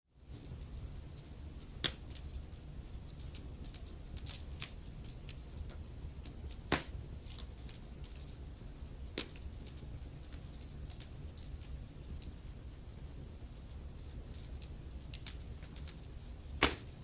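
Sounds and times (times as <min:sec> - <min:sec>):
wood fire crackling: 0:00.2 - 0:17.0.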